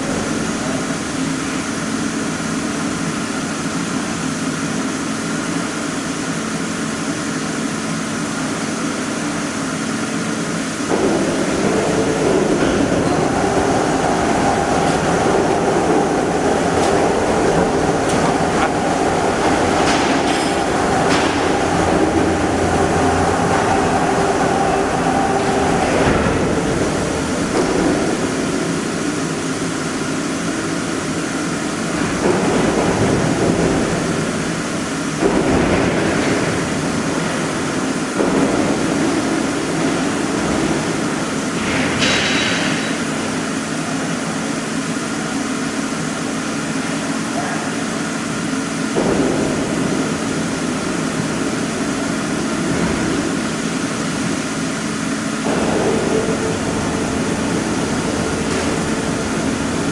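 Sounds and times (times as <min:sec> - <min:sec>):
cutting machine rumble and hum: 0:00.0 - 0:42.2, 0:48.3 - 0:59.9.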